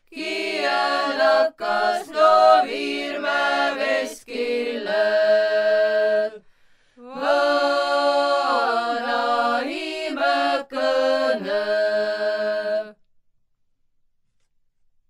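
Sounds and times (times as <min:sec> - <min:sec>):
women's choir singing unaccompanied: 0:00.1 - 0:06.4, 0:07.0 - 0:13.0.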